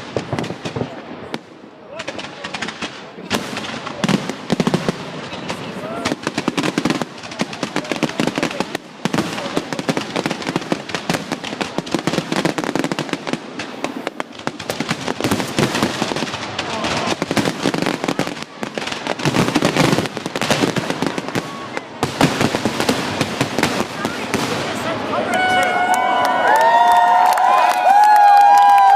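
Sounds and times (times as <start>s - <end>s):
fireworks crackling bangs: 0.0s - 28.9s.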